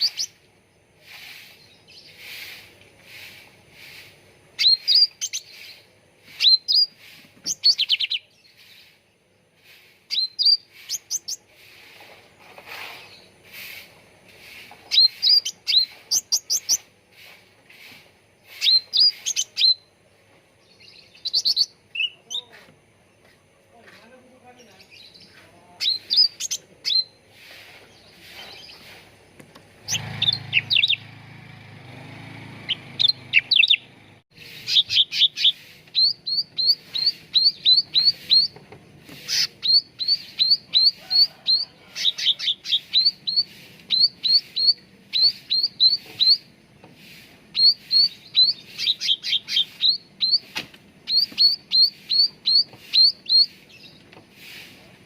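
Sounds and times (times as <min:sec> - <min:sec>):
bird chirping: 0:00.0 - 0:31.2, 0:31.8 - 0:54.6.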